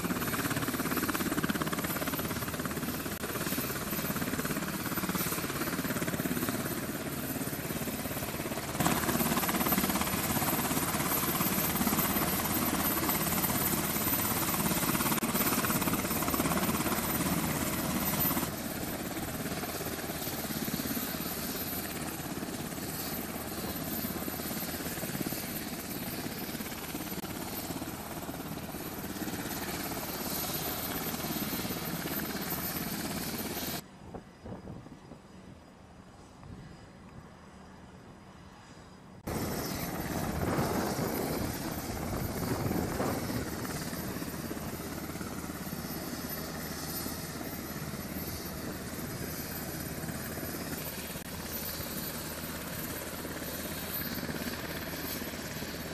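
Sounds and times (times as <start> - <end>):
helicopter turbine and rotors: 0.0 - 55.9.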